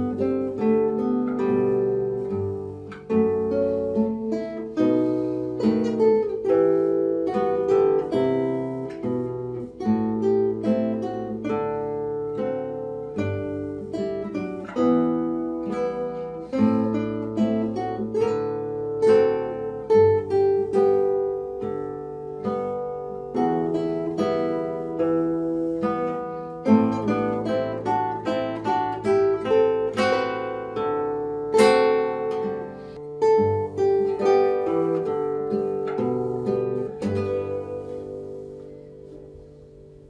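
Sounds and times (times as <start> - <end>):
classical guitar duet: 0.0 - 40.0.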